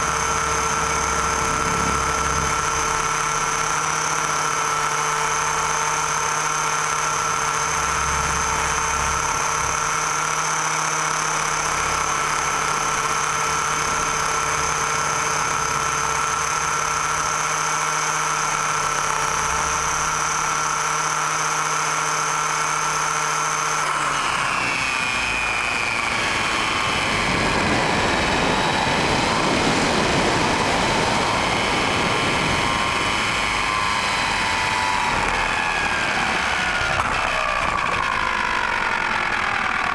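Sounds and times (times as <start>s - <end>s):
model helicopter high whine: 0.0s - 39.9s.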